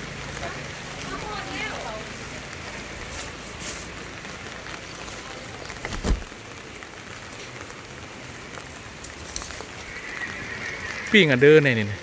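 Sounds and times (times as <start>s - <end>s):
steady rain on wet ground: 0.0s - 12.0s.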